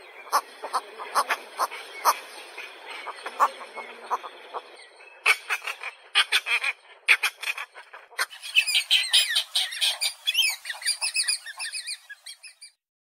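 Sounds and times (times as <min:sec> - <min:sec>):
harsh croaking bird calls: 0:00.0 - 0:12.8
high-pitched bird chatter: 0:00.2 - 0:12.8.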